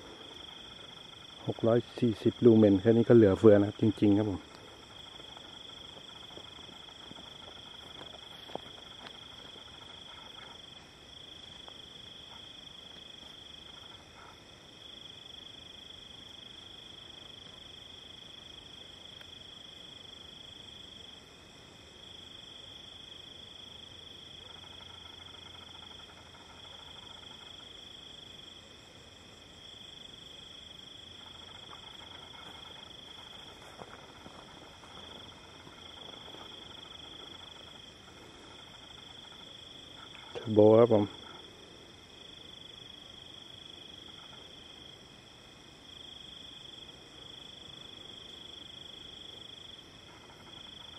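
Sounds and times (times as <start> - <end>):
crickets trilling: 0.0 - 50.9
high insect notes: 0.0 - 50.9.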